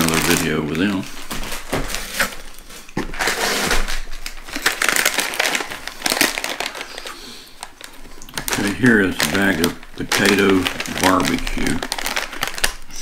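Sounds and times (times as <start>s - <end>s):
plastic snack bags crinkling: 0.0s - 13.0s.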